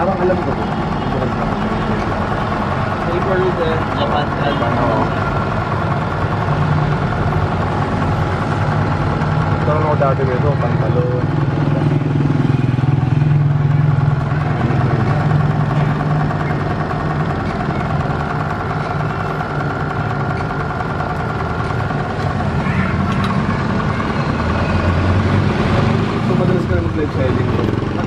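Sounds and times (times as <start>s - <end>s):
low mechanical drone: 0.0s - 28.0s.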